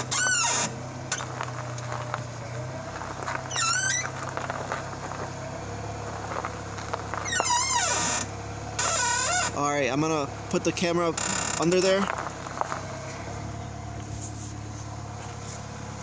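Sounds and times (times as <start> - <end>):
engine idling hum: 0.0 - 16.0
suspension squeaking: 0.0 - 16.0.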